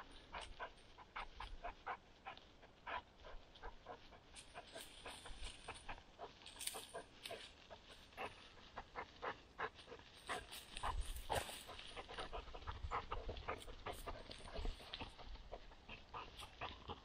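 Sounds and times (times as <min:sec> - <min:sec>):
dog panting: 0:00.0 - 0:17.0
dry grass crackling and rustling: 0:00.0 - 0:17.0.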